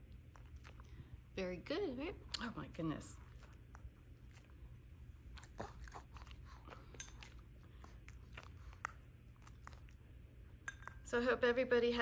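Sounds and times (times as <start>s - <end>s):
dog chewing: 0.0s - 1.2s, 2.2s - 11.0s.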